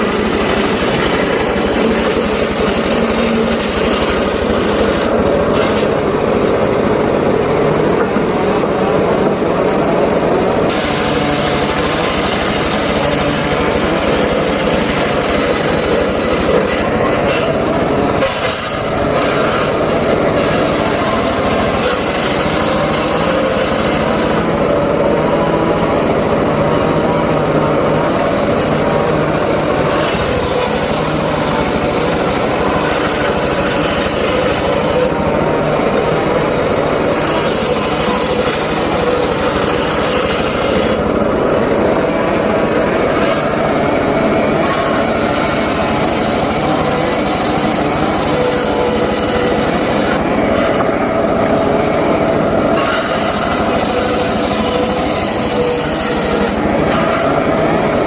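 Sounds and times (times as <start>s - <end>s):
saw engine running: 0.0s - 58.0s.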